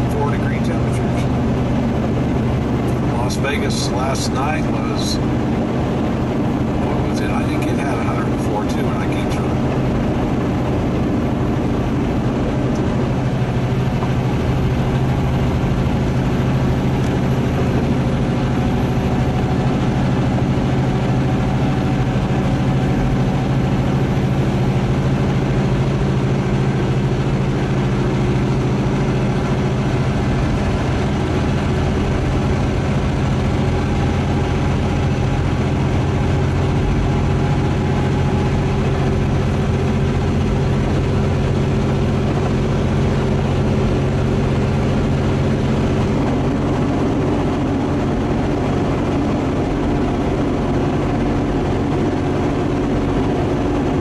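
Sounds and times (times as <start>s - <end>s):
diesel truck engine drone: 0.0s - 54.0s.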